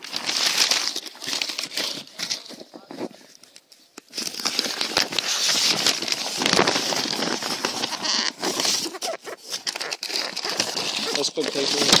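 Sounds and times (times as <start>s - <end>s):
newspaper crumpling and rustling: 0.0s - 12.0s.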